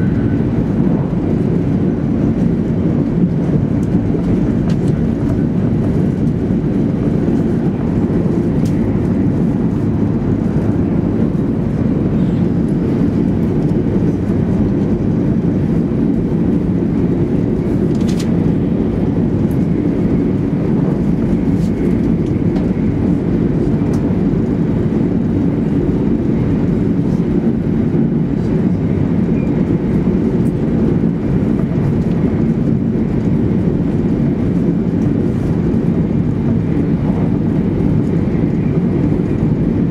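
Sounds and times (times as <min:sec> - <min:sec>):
train cabin rumble: 0:00.0 - 0:39.9.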